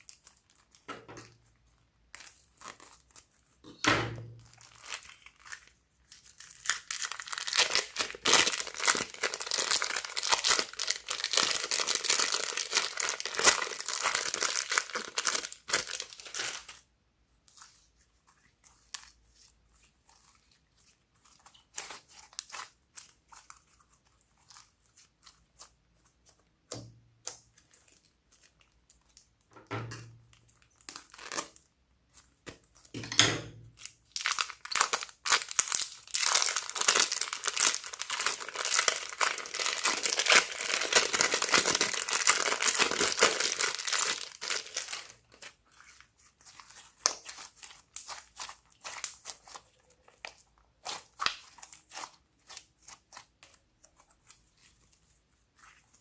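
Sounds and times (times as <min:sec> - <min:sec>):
slime crackling and squishing: 0:00.0 - 0:33.0, 0:33.7 - 0:56.0.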